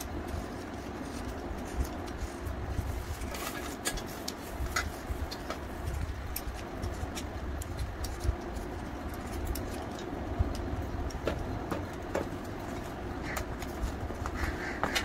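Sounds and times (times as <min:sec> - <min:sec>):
peeler scraping mango skin: 0:00.0 - 0:15.0.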